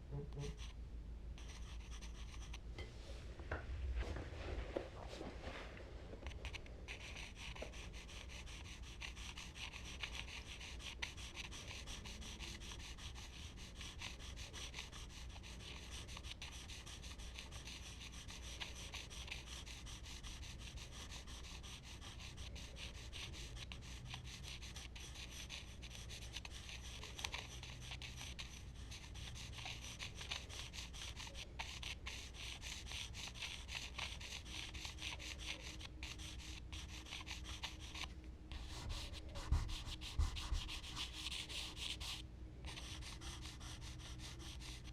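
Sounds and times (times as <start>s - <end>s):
charcoal scratching on paper: 0.4s - 0.8s, 1.4s - 2.6s, 6.2s - 44.9s.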